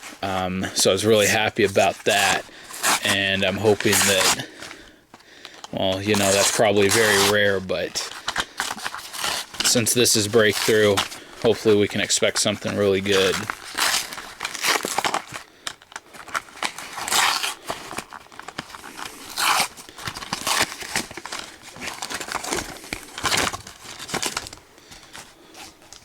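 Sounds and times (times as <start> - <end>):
cardboard tearing: 0.0 - 4.8, 5.8 - 25.8
plastic blister packaging crinkling: 0.0 - 26.0.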